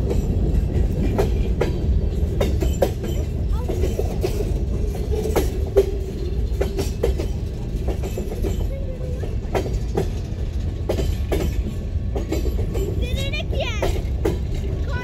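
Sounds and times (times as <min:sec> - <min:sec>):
freight train rumbling past: 0:00.0 - 0:15.0
wheels and couplings clanking: 0:00.0 - 0:15.0.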